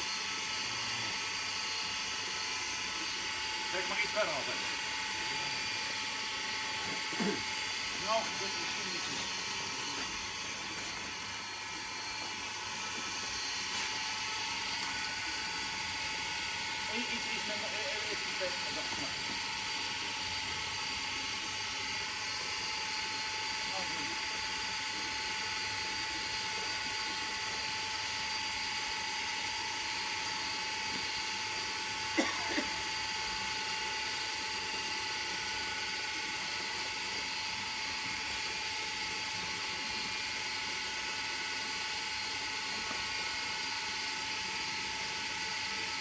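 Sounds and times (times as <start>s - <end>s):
electric water pump whining: 0.0s - 46.0s.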